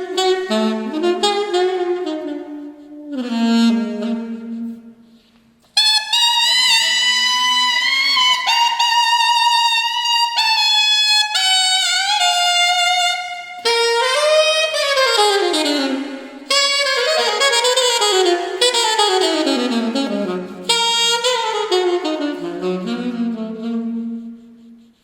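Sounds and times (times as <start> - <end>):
alto saxophone playing: 0.0 - 25.0.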